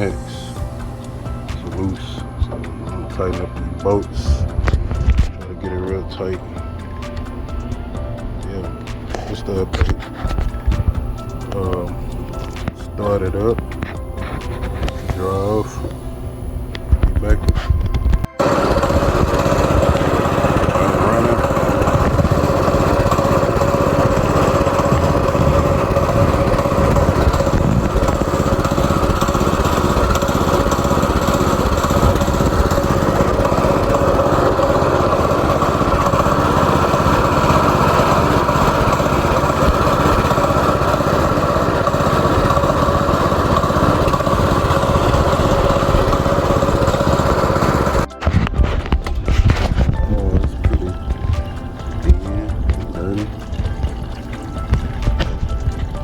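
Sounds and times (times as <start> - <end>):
go-kart engine running: 0.0 - 16.0, 16.7 - 56.0.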